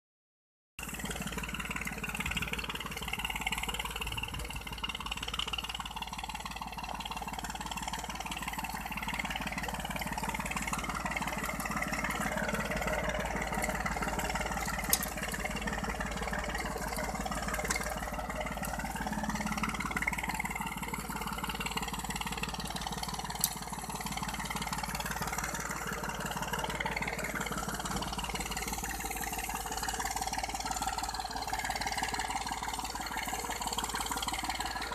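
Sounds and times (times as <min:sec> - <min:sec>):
tractor engine under load: 0:00.8 - 0:34.9.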